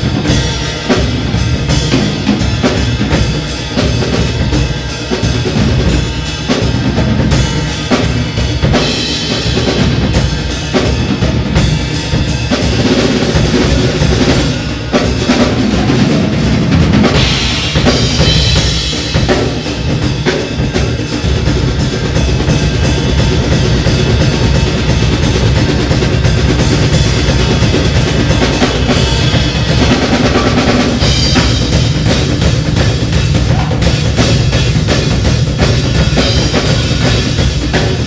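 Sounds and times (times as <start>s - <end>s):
djembe drumming: 0.0s - 38.0s
drum kit groove: 0.0s - 38.0s.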